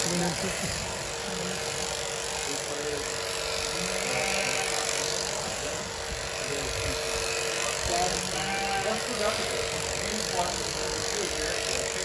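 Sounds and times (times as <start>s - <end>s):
electric shearing handpiece humming: 0.0s - 12.0s.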